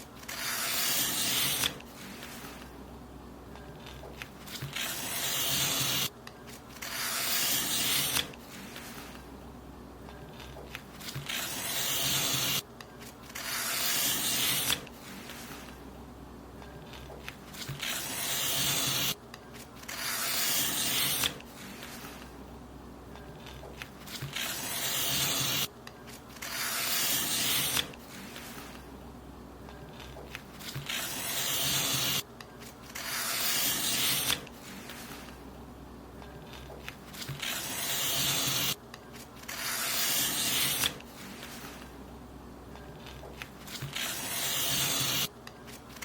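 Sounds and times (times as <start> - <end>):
paper being cut: 0.0 - 2.7, 3.8 - 9.2, 10.4 - 15.8, 16.9 - 22.2, 23.4 - 28.8, 30.0 - 35.4, 36.5 - 41.9, 43.0 - 46.0.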